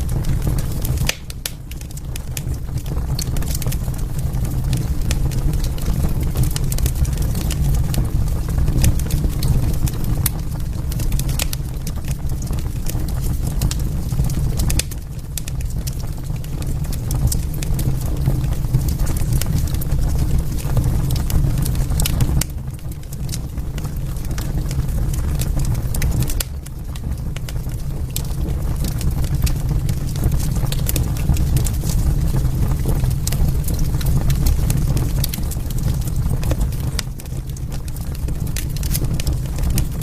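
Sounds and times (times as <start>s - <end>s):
low rumble of burning: 0.0s - 40.0s
wood fire crackling and popping: 0.0s - 40.0s.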